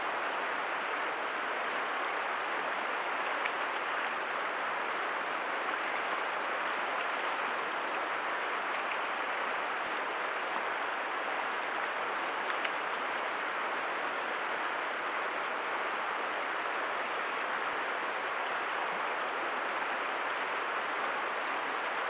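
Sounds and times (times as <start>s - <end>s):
stream water running: 0.0s - 22.0s.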